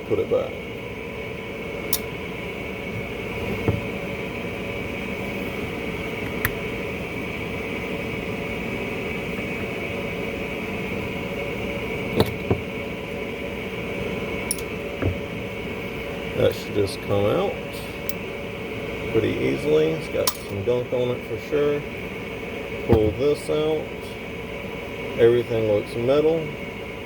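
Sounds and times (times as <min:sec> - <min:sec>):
fan hum: 0:00.0 - 0:27.0.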